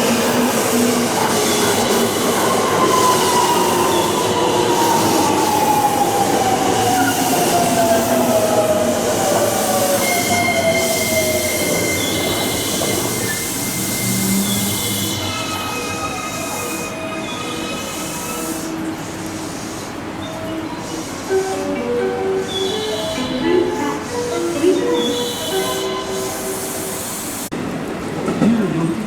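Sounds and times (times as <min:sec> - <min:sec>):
high wheel squeal: 0:00.0 - 0:27.5.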